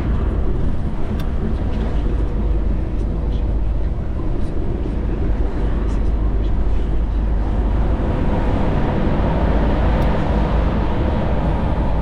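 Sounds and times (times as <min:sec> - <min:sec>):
road noise: 0:00.0 - 0:12.0
truck engine rumbling: 0:00.0 - 0:12.0.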